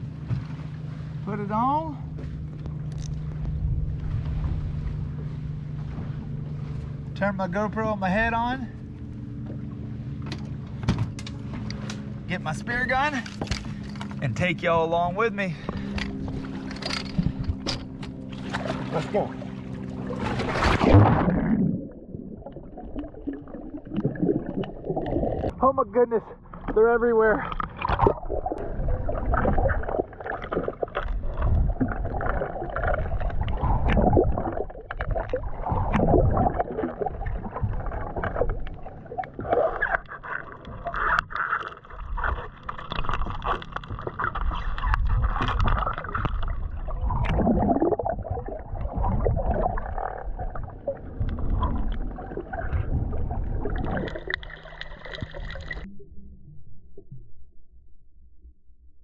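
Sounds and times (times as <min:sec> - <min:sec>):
muffled underwater churning: 0:00.0 - 0:59.0.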